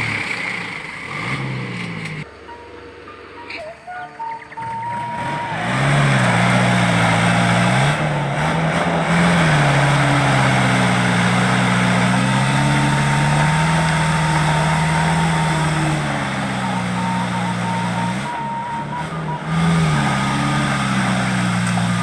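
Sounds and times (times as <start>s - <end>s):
truck diesel engine labouring: 0.0s - 22.0s.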